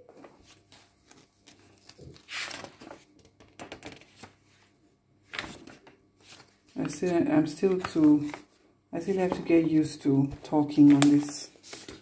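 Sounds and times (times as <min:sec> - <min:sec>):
paper pages rustling: 0:00.1 - 0:12.0.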